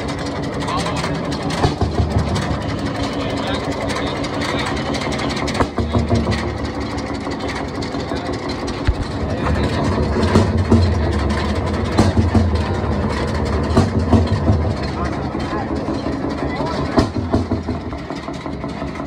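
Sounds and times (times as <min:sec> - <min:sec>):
engine knocks: 0:00.0 - 0:19.0
tractor engine running: 0:00.0 - 0:19.0.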